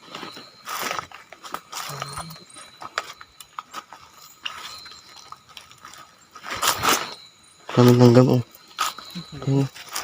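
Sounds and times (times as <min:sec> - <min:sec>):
footsteps crunching dry leaves: 0:00.0 - 0:10.0.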